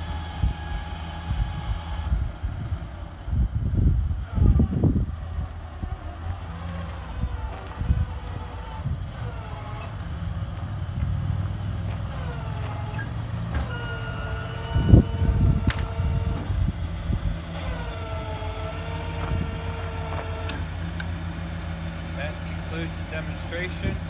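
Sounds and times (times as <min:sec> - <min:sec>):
hydraulics whining: 0:00.0 - 0:24.0
truck engine running: 0:00.0 - 0:24.0.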